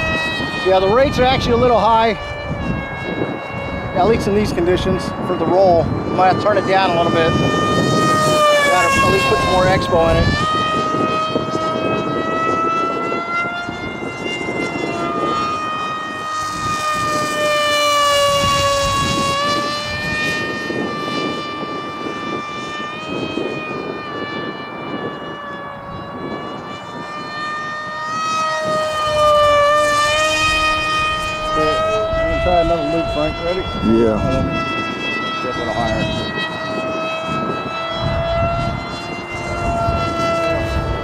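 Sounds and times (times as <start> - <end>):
model plane motor whine: 0.0 - 41.0
wind buffeting microphone: 0.0 - 41.0.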